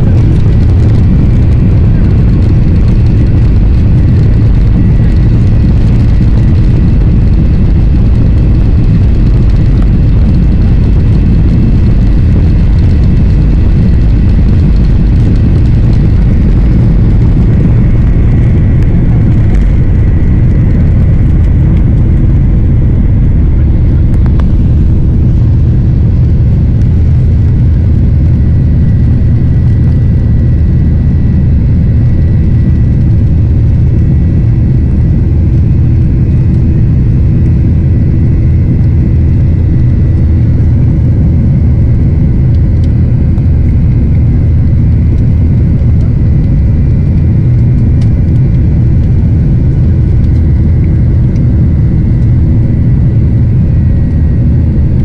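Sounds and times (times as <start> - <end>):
high engine whine: 0.0 - 55.0
jet engines rumbling in cabin: 0.0 - 55.0.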